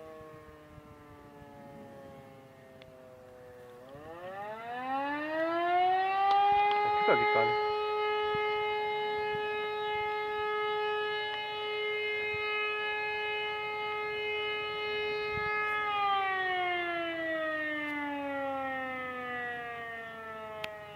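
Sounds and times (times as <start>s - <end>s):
siren steady tone winding down: 0.0s - 20.9s.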